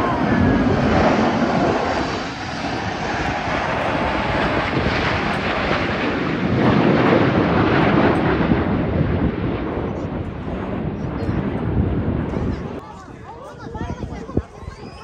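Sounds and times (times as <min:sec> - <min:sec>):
jet roar flying past low: 0:00.0 - 0:15.0.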